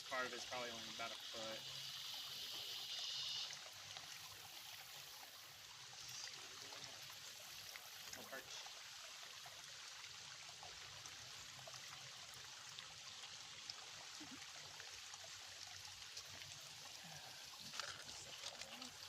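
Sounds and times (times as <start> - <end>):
creek water flowing: 0.0 - 19.0.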